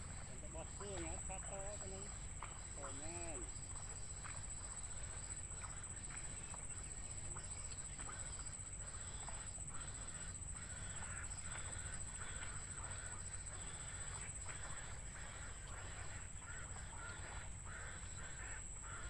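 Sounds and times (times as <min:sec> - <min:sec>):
nestlings calling faintly: 0:00.0 - 0:19.0
steady high-pitched whine: 0:00.0 - 0:19.0.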